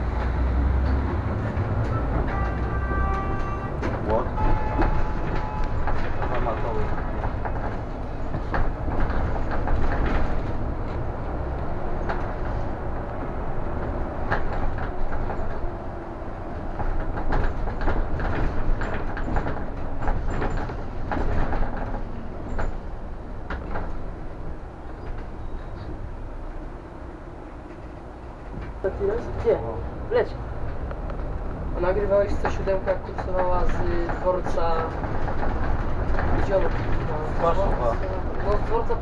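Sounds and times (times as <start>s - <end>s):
bus rumble: 0.0s - 39.0s
rattles and knocks: 0.1s - 26.6s, 27.5s - 39.0s.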